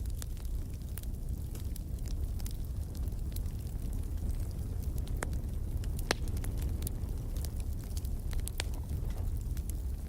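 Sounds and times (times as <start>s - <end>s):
fire crackling: 0.0s - 10.0s
fire flames rumbling: 0.0s - 10.0s.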